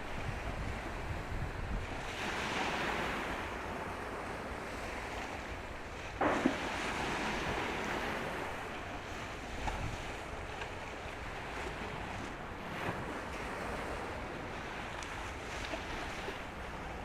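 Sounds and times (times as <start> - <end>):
moving water: 0.0 - 17.0.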